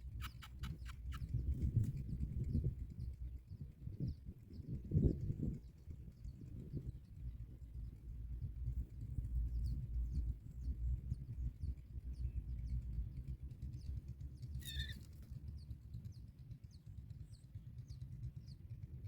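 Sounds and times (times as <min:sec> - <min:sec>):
small birds chirping: 0:00.0 - 0:18.8
steady low rumble: 0:00.0 - 0:19.0.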